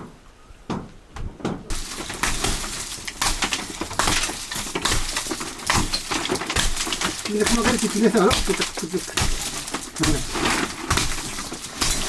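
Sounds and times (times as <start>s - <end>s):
knocks: 0.0s - 12.0s
dry leaves crackling and rustling: 1.7s - 12.0s
stalks snapping: 1.7s - 12.0s.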